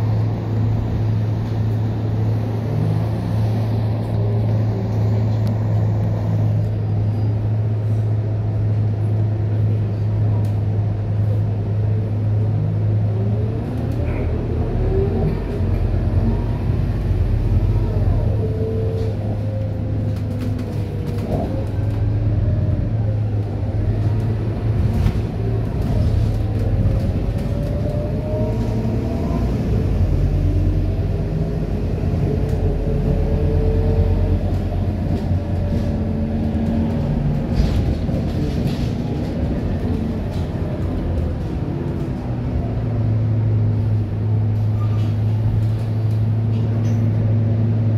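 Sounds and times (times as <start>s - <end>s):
bus diesel engine whining: 0.0s - 47.9s.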